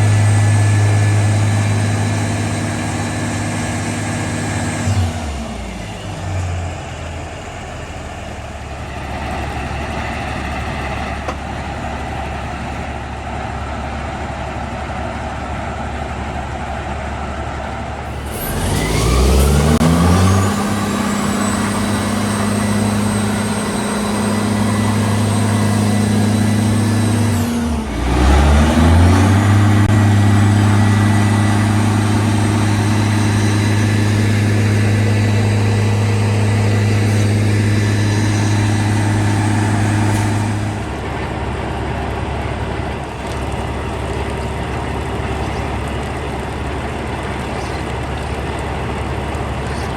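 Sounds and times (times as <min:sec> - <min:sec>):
diesel truck engine revving: 0:00.0 - 0:13.8, 0:17.4 - 0:49.9.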